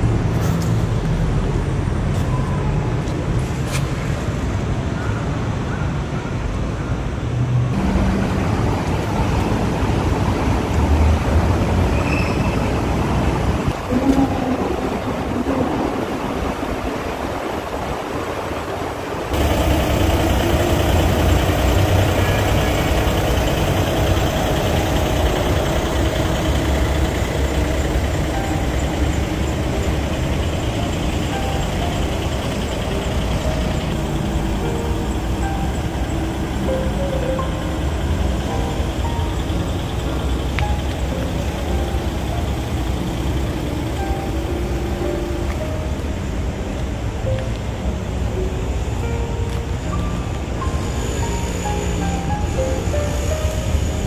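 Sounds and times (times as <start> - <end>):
engine hum: 0.0 - 54.0
passing vehicles rushing: 0.0 - 54.0.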